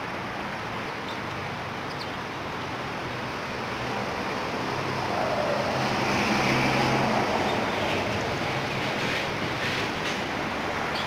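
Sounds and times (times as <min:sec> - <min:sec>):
vehicle passing on road: 0:00.1 - 0:11.0.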